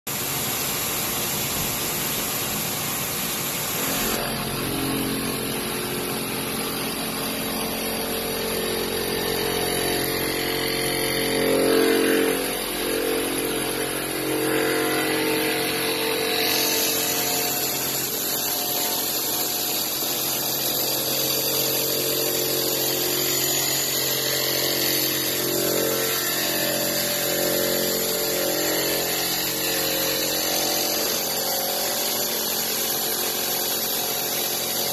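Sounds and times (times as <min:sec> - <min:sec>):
milling machine cutting metal: 0:00.1 - 0:34.9.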